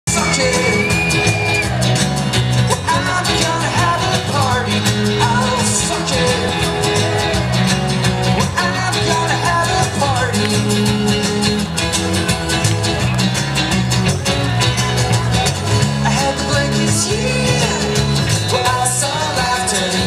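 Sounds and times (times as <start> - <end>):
person singing: 0.1 - 2.0, 2.6 - 12.7, 15.8 - 20.0
steady low bass notes: 0.1 - 20.0
strummed acoustic guitars: 0.1 - 20.0.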